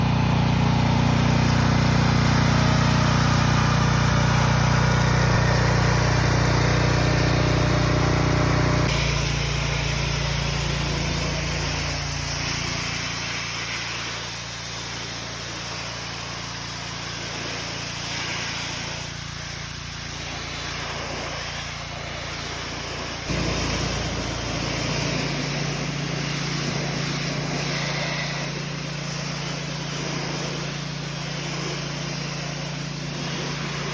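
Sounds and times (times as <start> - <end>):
pressure washer engine running: 0.0 - 33.9
water spray hissing: 0.6 - 33.9.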